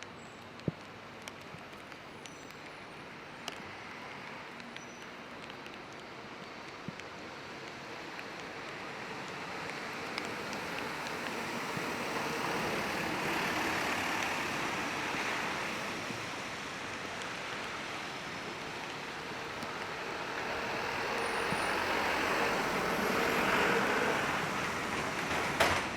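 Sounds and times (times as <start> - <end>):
rain pattering: 0.0 - 25.9
tyres hissing on wet street: 0.1 - 25.9.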